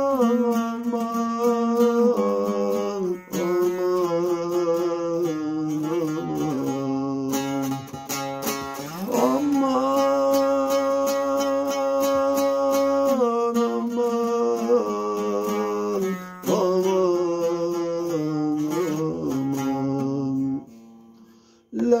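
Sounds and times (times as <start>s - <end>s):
man singing long notes: 0.0s - 20.8s, 21.7s - 22.0s
long-necked lute picked: 0.0s - 22.0s.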